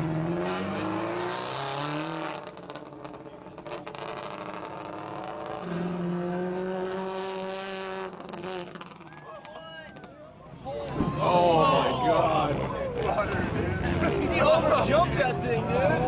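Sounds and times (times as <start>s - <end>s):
rally car engine running hard: 0.0s - 9.1s, 11.2s - 16.0s.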